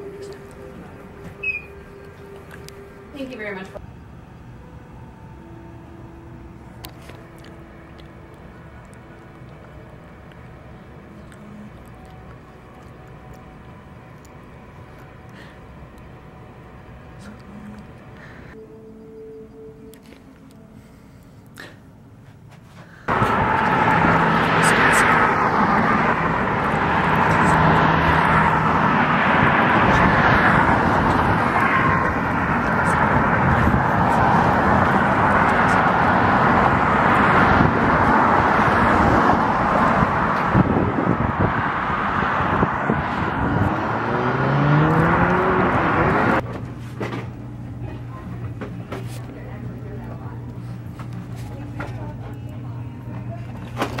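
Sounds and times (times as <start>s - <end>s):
vehicle traffic rushing: 0.0s - 18.6s, 23.1s - 52.8s.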